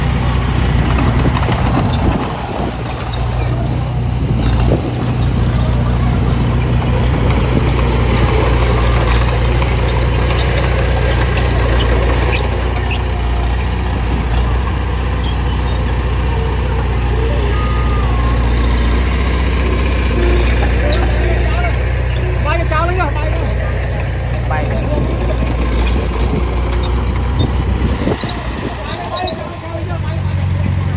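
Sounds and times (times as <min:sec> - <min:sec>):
heavy machine diesel engine: 0:00.0 - 0:30.9.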